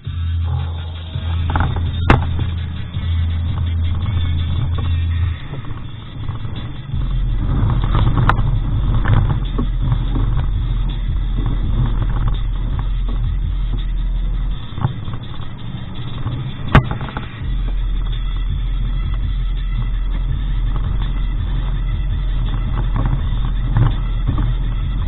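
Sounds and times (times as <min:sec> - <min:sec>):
truck engine running: 0:00.0 - 0:25.0
vehicle jolting knocks: 0:01.2 - 0:25.0.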